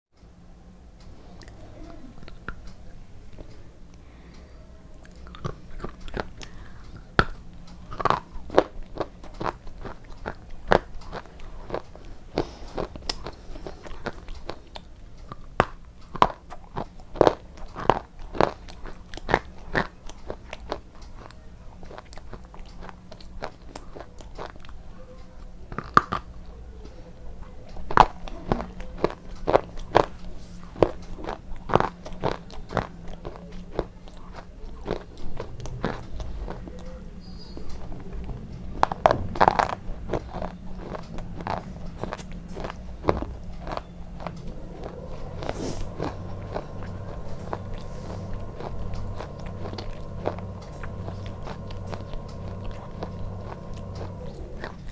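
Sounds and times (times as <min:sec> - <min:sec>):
wafer biscuit crunching: 0:07.2 - 0:24.8, 0:27.8 - 0:54.9.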